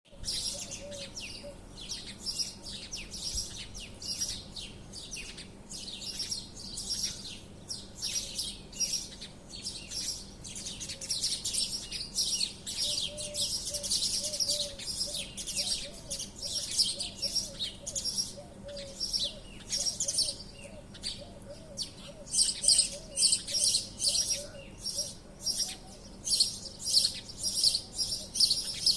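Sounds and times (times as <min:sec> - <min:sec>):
flock of small birds chirping: 0:00.1 - 0:28.9.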